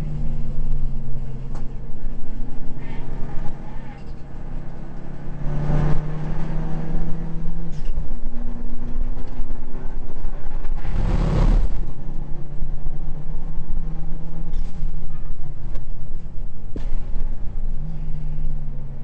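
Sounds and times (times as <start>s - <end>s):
race car engine from inside cabin: 0.0s - 19.0s.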